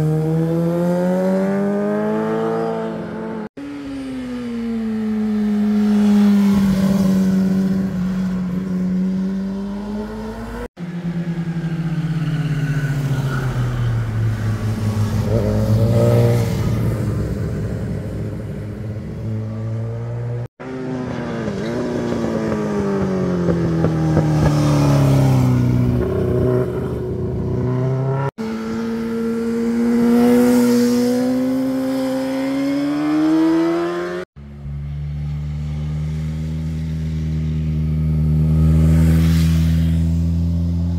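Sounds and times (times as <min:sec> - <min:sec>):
motorcycle engines passing: 0:00.0 - 0:40.9.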